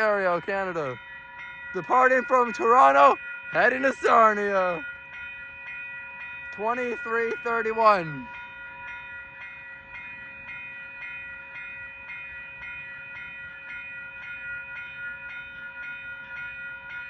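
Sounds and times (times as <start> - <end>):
level-crossing bell ringing: 0.0 - 17.0.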